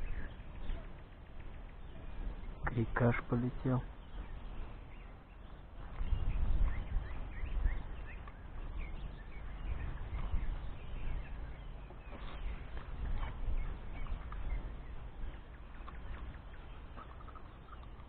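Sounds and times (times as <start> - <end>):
faint bird chirps: 0.0 - 18.0
wind rumbling on microphone: 0.0 - 18.0.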